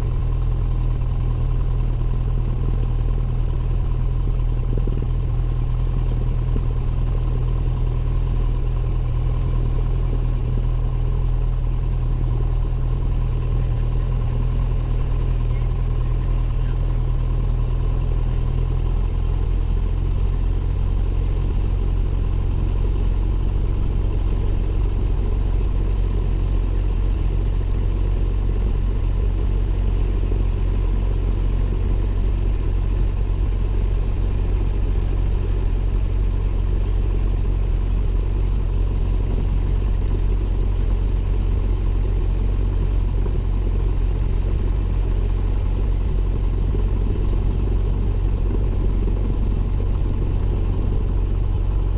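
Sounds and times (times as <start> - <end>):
airplane piston engine and propeller: 0.0 - 51.9.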